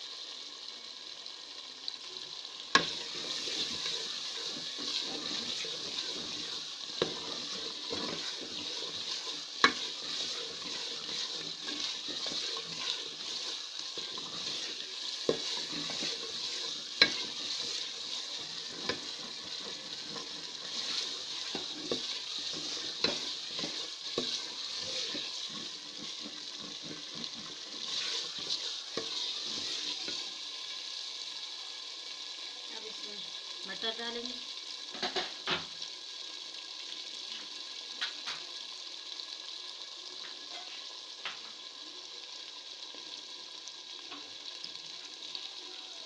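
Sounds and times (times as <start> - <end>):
food sizzling in a pot: 0.0 - 46.0.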